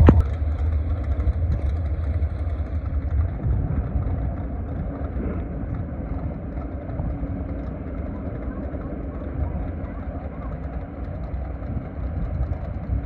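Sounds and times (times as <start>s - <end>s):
racing car engine rumble: 0.0s - 13.0s.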